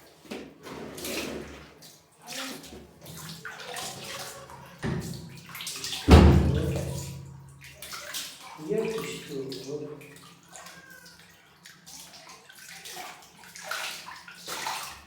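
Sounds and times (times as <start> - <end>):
water splashing in a tub: 0.0 - 15.0.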